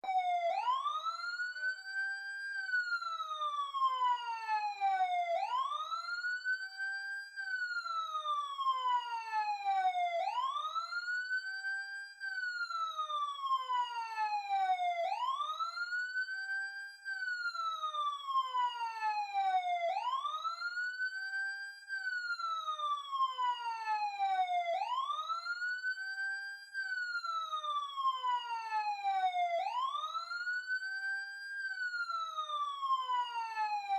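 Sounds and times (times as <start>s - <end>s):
ambulance siren wailing: 0.0s - 33.9s.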